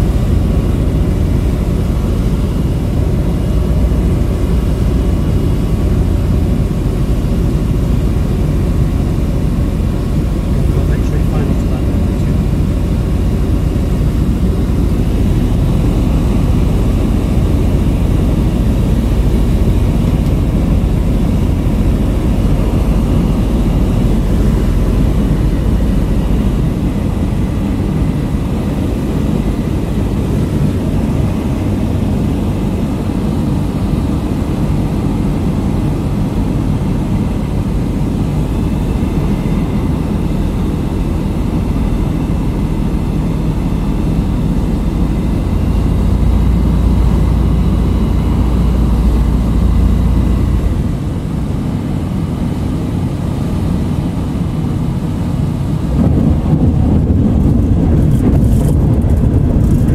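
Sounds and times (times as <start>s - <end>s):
propeller engine droning: 0.0s - 59.9s.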